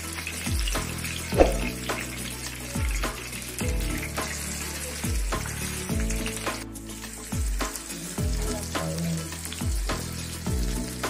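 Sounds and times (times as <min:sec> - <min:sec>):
background music with bass: 0:00.0 - 0:11.0
fish sizzling in oil: 0:00.0 - 0:11.0.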